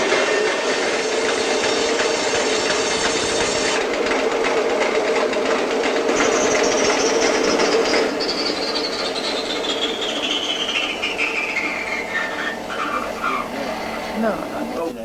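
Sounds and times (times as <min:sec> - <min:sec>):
bandsaw cutting a log: 0:00.0 - 0:15.0
high whine: 0:00.0 - 0:15.0.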